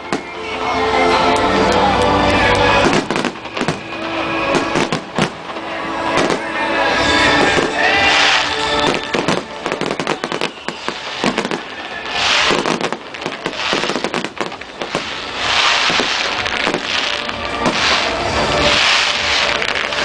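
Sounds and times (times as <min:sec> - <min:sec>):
fireworks bangs and pops: 0:00.0 - 0:00.4, 0:01.3 - 0:20.0
fireworks crackling: 0:00.0 - 0:20.0.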